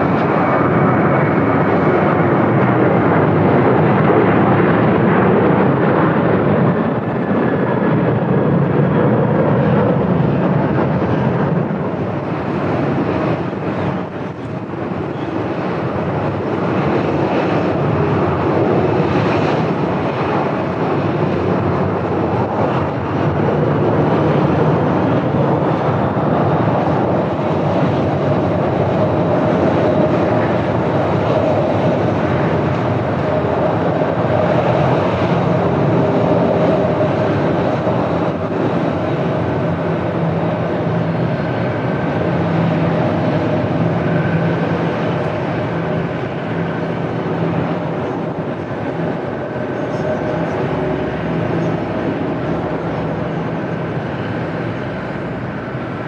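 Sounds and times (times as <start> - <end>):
jet engines on landing: 0.0 - 56.0
jet engines on takeoff: 0.0 - 56.0.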